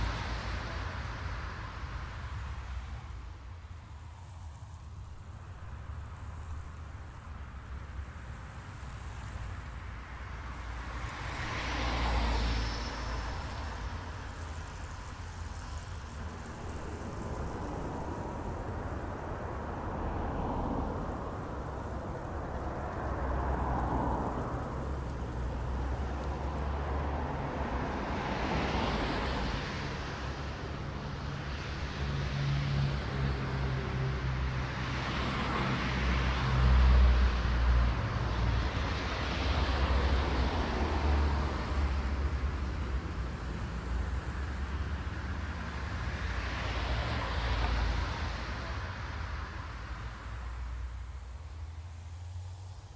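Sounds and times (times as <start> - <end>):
cars passing: 0.0 - 52.9.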